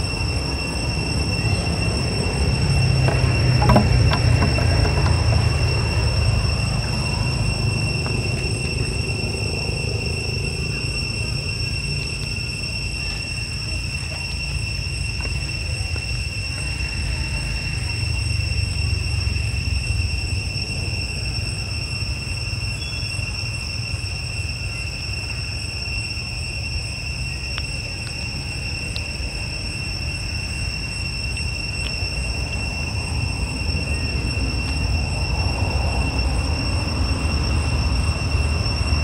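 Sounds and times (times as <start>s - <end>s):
insect chorus whine: 0.0s - 39.0s.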